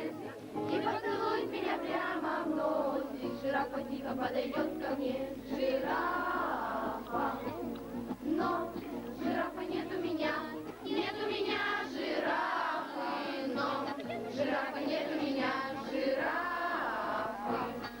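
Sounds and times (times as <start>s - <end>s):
children singing in unison: 0.7s - 18.0s.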